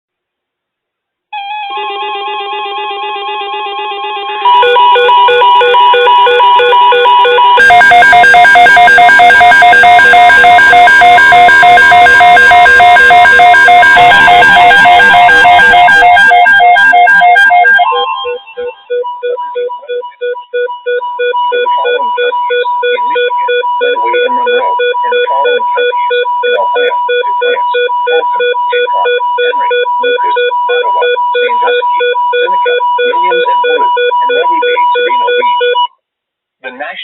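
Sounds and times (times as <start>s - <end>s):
weather radio alarm beeps: 4.4s - 35.9s.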